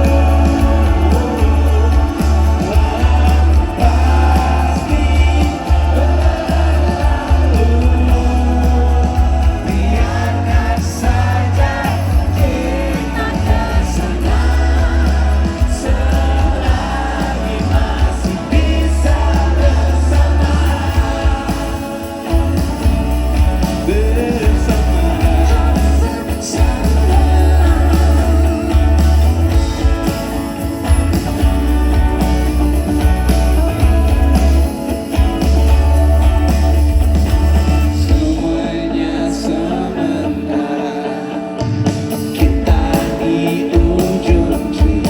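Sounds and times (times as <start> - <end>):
pulsing bass: 0.0 - 40.3
live pop-rock band: 0.0 - 45.0
person singing: 0.0 - 45.0.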